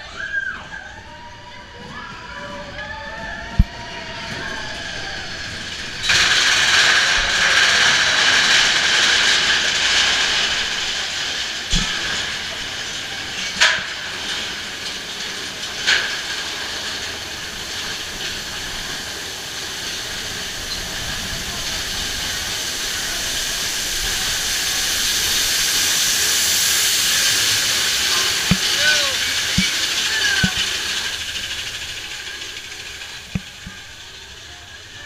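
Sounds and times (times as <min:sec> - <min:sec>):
roller coaster cars rattling: 0:00.0 - 0:35.0.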